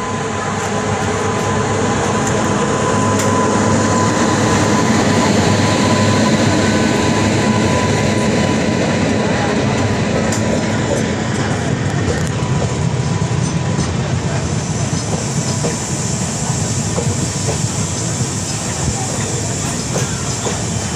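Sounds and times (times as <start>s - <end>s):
train wheels rushing and rumbling: 0.0s - 20.9s.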